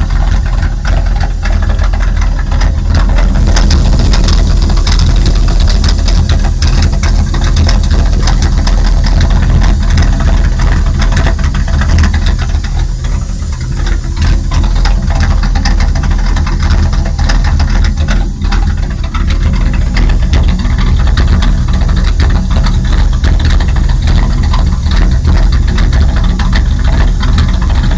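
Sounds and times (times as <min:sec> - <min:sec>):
loud hissing from engine: 0:00.0 - 0:27.9
truck engine idling roughly: 0:00.0 - 0:27.9.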